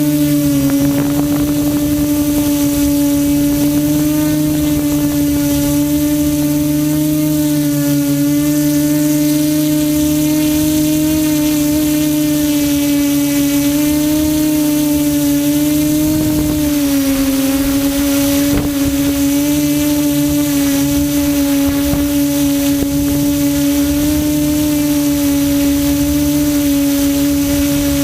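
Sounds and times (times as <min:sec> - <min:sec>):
quadcopter motors humming: 0:00.0 - 0:28.0.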